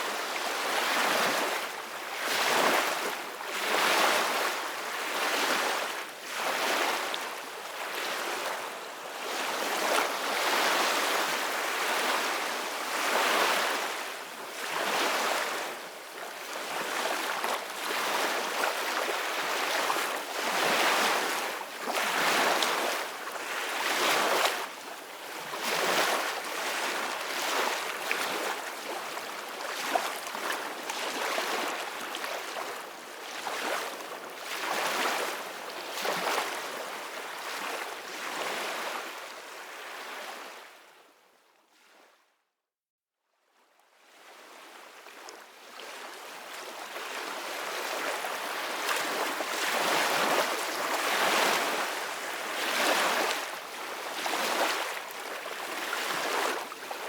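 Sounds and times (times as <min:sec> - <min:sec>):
ocean waves breaking on a beach: 0:00.0 - 0:40.9, 0:44.0 - 0:57.0.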